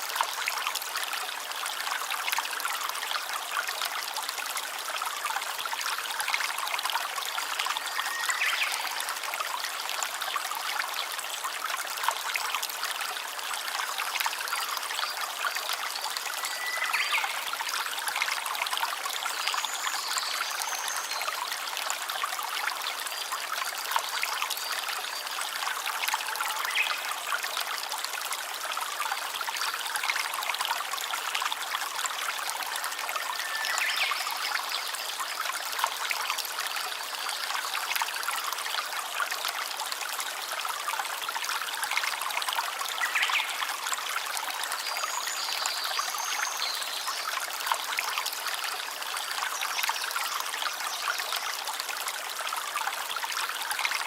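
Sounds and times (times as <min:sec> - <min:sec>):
stream trickling and babbling: 0:00.0 - 0:54.0.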